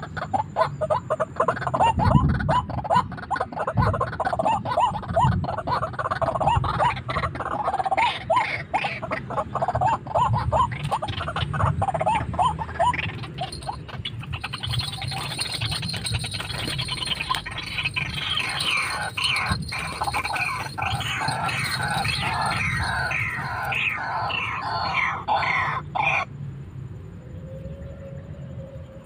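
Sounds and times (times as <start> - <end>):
waterhen calling: 0.0 - 26.3.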